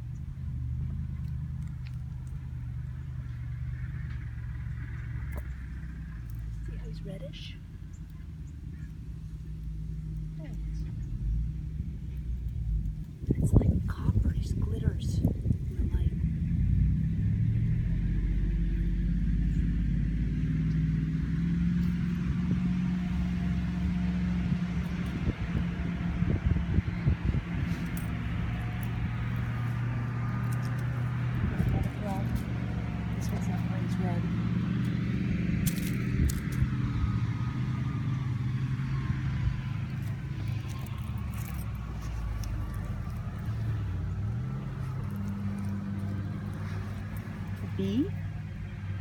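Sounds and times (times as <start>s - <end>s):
low engine drone: 0.0s - 49.0s.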